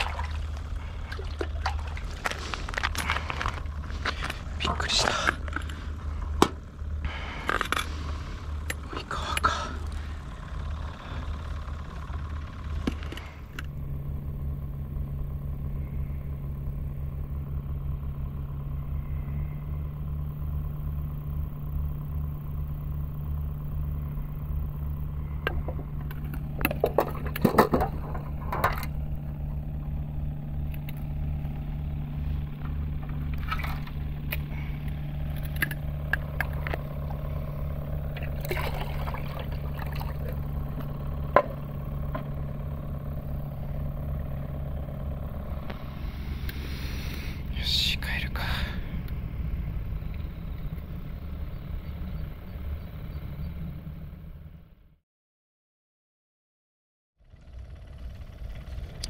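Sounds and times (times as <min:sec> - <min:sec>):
low motor hum: 0:00.0 - 0:55.0, 0:57.2 - 0:59.0.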